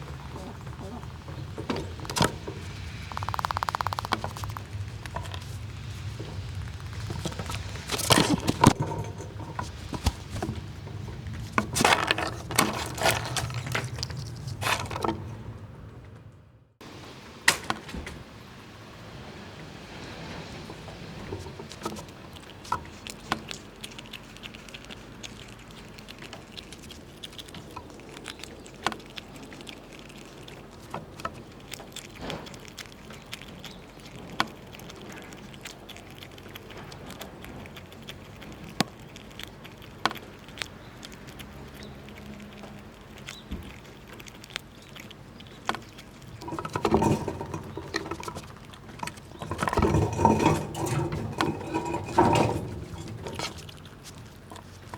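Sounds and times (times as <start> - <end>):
squirrels gnawing nut shells: 0.0 - 15.5, 19.6 - 54.9
scrabbling and rustling: 0.0 - 15.6, 19.4 - 41.4, 42.1 - 54.9.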